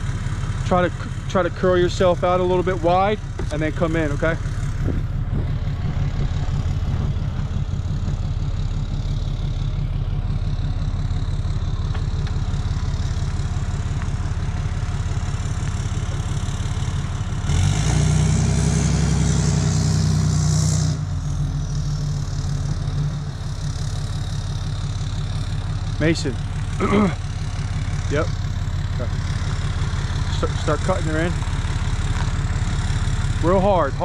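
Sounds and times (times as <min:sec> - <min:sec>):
truck engine idling and revving: 0:00.0 - 0:34.0.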